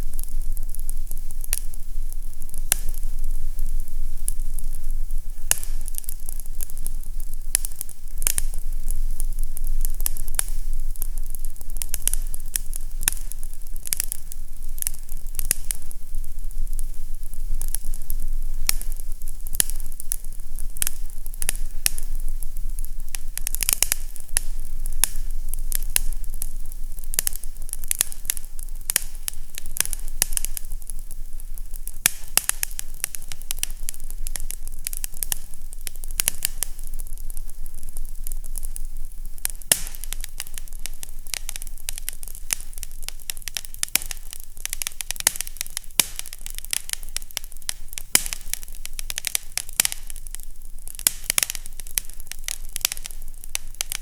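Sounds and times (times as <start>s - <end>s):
fireplace crackling: 0.0s - 54.0s.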